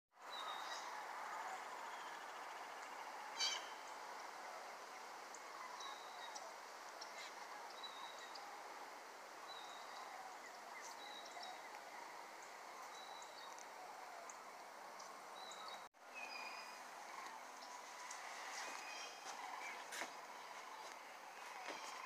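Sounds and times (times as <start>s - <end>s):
distant flock of birds calling: 0.2s - 22.0s.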